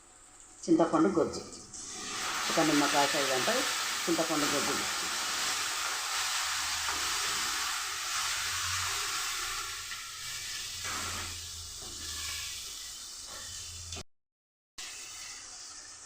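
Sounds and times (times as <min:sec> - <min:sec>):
spices sizzling in hot oil: 0:01.6 - 0:14.0, 0:14.8 - 0:16.0.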